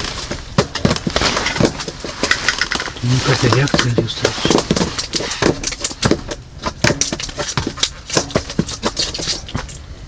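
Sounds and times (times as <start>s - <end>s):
irregular clicks and knocks: 0.0s - 9.8s.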